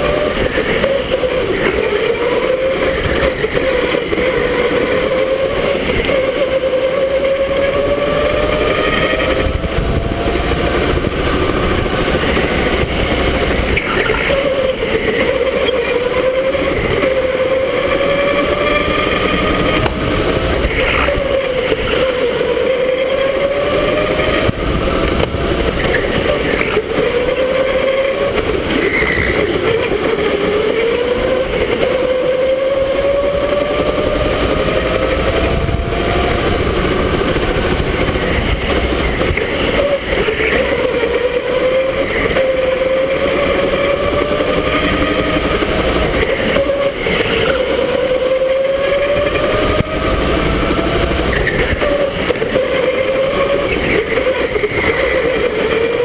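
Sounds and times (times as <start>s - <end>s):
electric go-kart motor whine: 0.0s - 56.0s
rough rolling noise: 0.0s - 56.0s.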